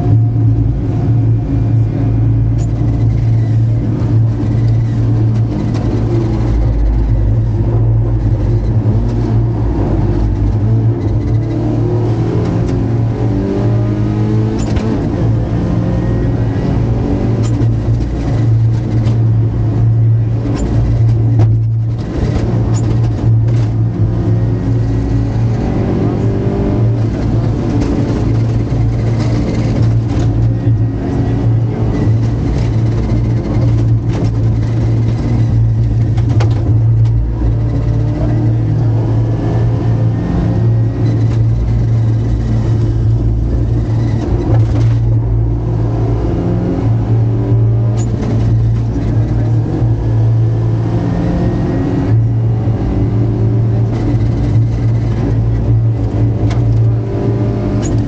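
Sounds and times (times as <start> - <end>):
rally car engine revving: 0.0 - 58.0
road noise: 0.0 - 58.0.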